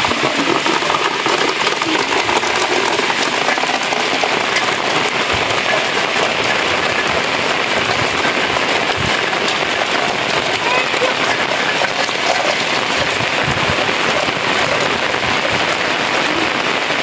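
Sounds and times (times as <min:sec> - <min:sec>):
steady rain on wet ground: 0:00.0 - 0:17.0.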